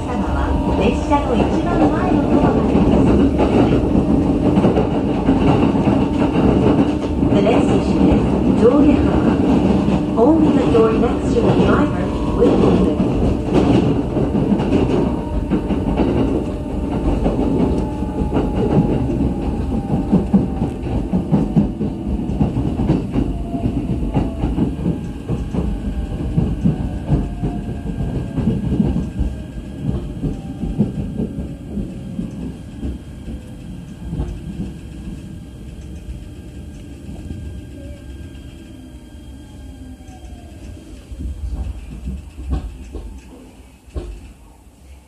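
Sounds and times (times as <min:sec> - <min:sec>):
train rumble: 0:00.0 - 0:45.0.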